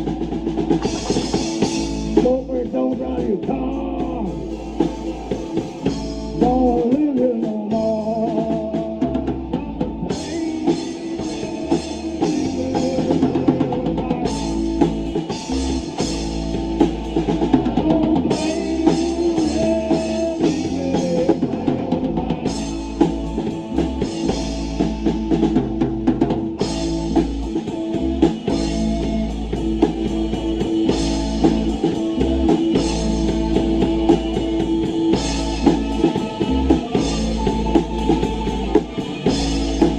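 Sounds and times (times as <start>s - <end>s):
person singing: 0.0s - 25.6s, 26.2s - 39.9s
drum kit: 0.0s - 39.9s
guitar and bass: 0.0s - 39.9s.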